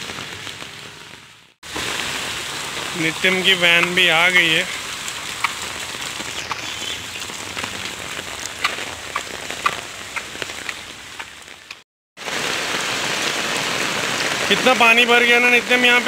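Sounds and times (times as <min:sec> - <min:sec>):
rain hissing on a wet street: 0:00.0 - 0:16.0
sharp ticks of raindrops: 0:00.0 - 0:16.0.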